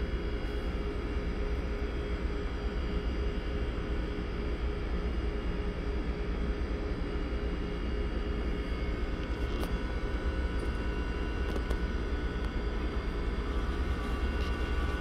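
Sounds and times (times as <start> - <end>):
lab rocker motor hum: 0.0 - 15.0.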